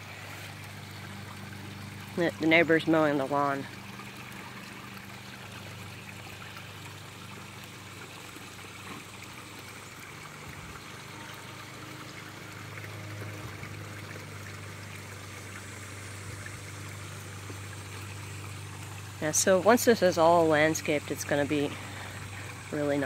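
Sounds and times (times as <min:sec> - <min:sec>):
lawn mower engine droning: 0:00.0 - 0:23.0
waterfall trickling and splashing: 0:00.0 - 0:23.0.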